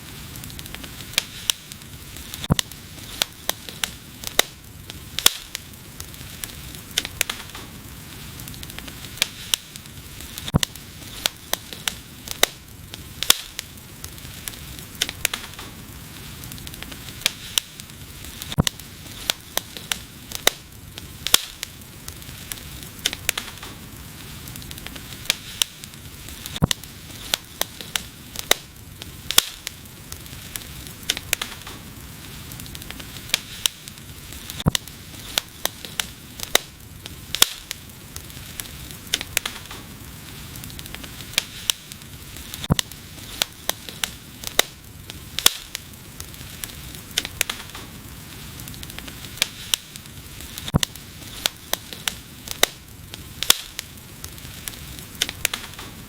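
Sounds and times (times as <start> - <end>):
fire hiss: 0.0 - 56.0
wood fire crackling and popping: 0.0 - 56.0.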